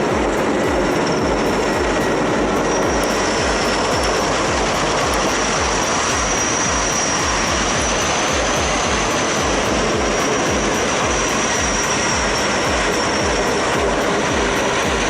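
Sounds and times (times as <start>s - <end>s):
helicopter engine whine: 0.0s - 15.0s.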